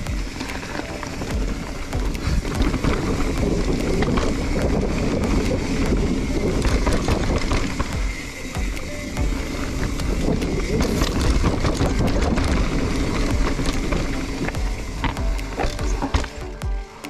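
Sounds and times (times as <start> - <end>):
wind rumbling on microphone: 0.0 - 16.8
bike clicks and rattles: 0.0 - 17.0
tyres on dirt trail: 0.0 - 17.0.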